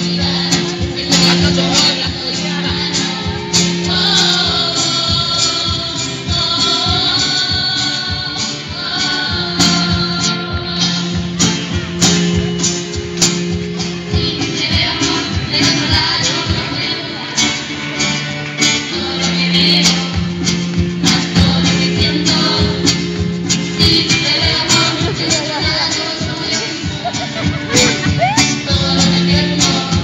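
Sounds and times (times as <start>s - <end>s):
youth choir singing: 0.0s - 11.9s, 14.1s - 17.8s, 18.8s - 30.0s
acoustic guitars strumming: 0.0s - 30.0s.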